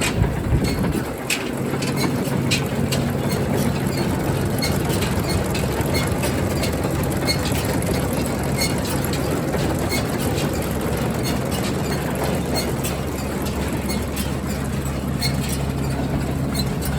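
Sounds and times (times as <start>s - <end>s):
baler chains and rollers clicking: 0.0s - 16.9s
tractor engine humming: 0.0s - 16.9s.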